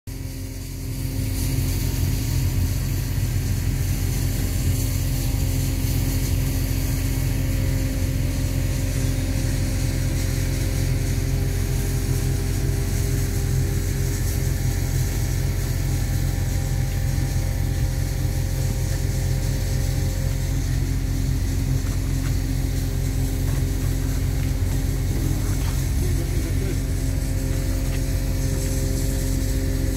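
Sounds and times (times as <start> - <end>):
low mechanical drone with hiss: 0.1 - 29.9.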